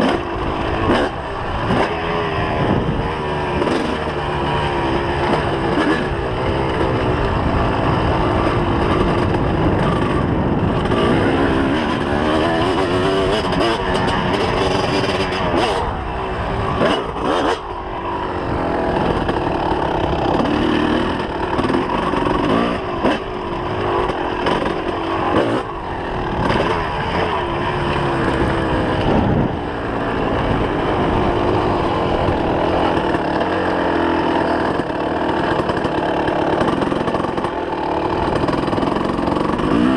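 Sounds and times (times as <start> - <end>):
two-stroke motocross engine revving: 0.0 - 39.9.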